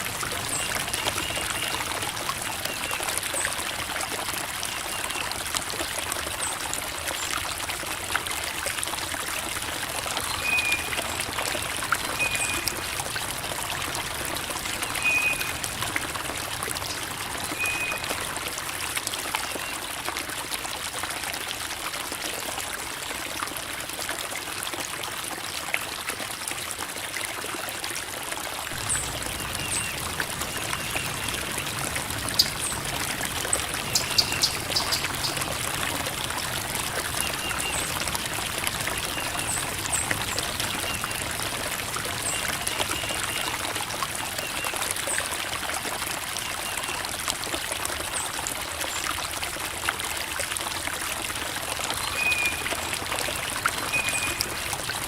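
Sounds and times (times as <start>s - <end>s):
creek water babbling over rocks: 0.0s - 55.0s.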